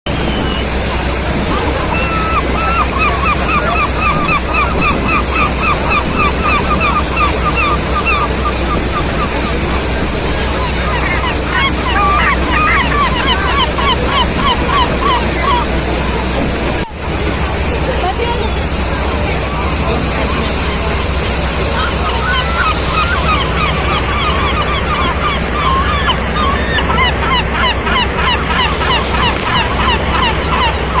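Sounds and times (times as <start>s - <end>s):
wind: 0.0s - 31.0s
low steady drone: 0.1s - 31.0s
seagull calling: 0.1s - 31.0s
waves rushing: 0.1s - 31.0s.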